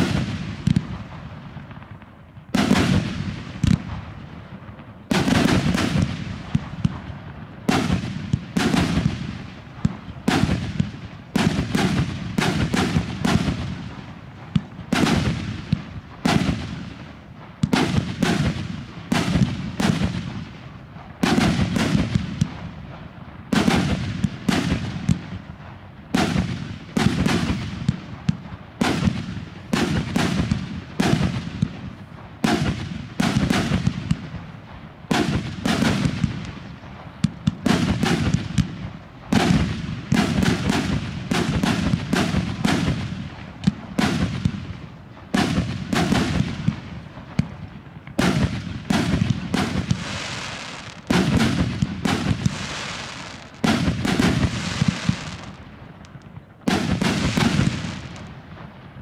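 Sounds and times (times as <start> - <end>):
fireworks bursting bangs: 0.0 - 59.0.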